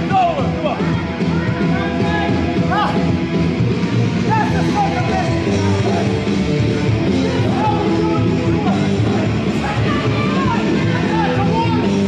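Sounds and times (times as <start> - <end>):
rock music with singing: 0.0 - 12.0.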